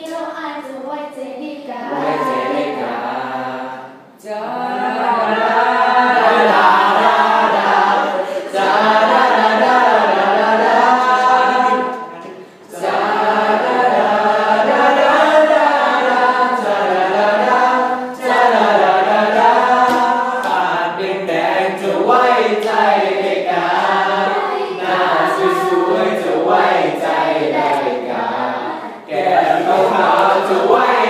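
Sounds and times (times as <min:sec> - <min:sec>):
choir singing in harmony: 0:01.8 - 0:31.0.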